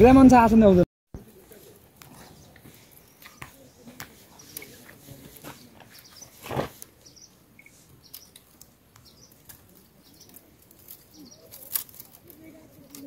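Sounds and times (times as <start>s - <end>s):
small birds chirping: 1.2s - 13.0s.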